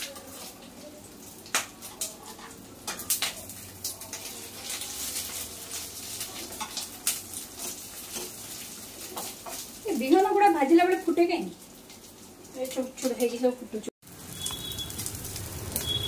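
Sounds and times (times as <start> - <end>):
fritters sizzling in hot oil: 0.0 - 16.0.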